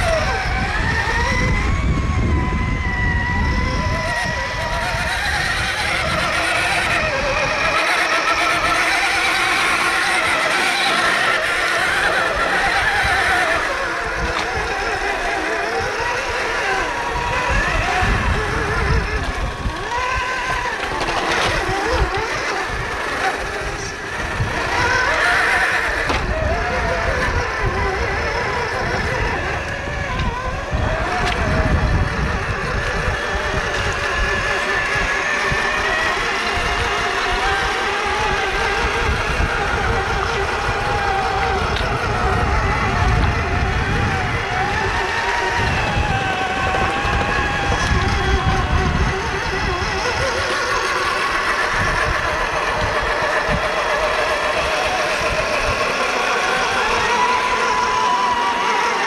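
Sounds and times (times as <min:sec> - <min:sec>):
toy truck electric motors whining: 0:00.0 - 0:59.0.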